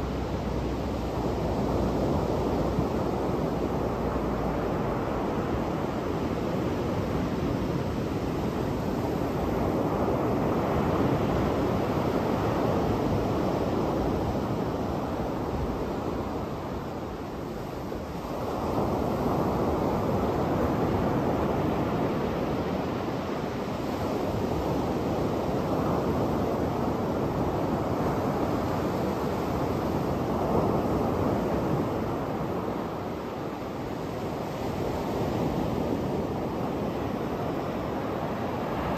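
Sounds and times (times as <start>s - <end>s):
surf washing up beach: 0.0s - 38.9s.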